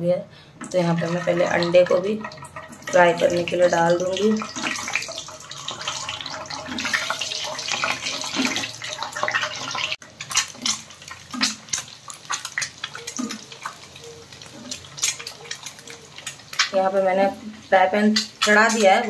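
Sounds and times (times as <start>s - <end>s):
eggs sizzling in hot oil: 0.6s - 19.0s
oil crackling and popping: 1.0s - 19.0s.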